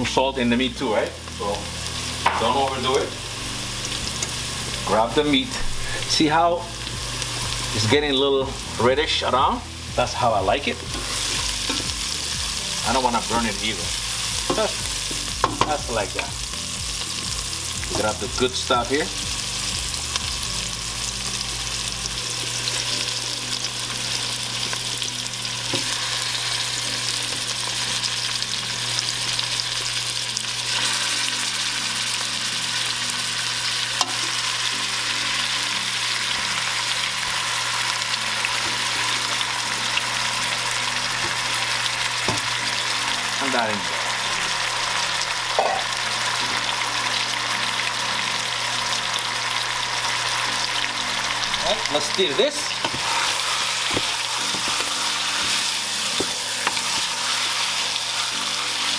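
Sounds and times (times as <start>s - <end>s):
meat sizzling in a pot: 0.0s - 58.9s.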